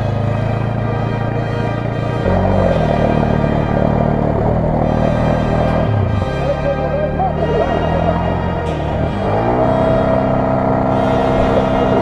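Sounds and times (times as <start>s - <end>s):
quad engine revving: 0.0s - 12.0s.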